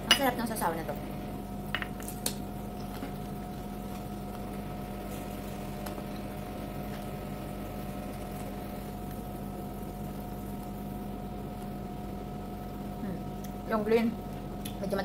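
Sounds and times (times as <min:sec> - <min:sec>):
steady hum with tones: 0:00.0 - 0:15.0.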